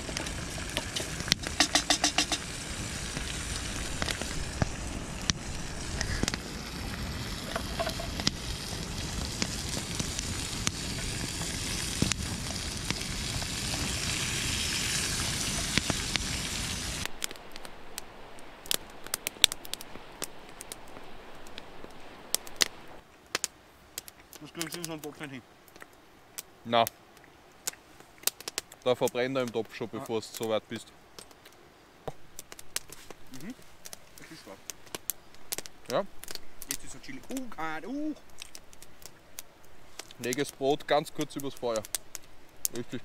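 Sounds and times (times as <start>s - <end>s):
campfire crackling: 0.0s - 43.0s
steady hiss: 0.0s - 43.0s.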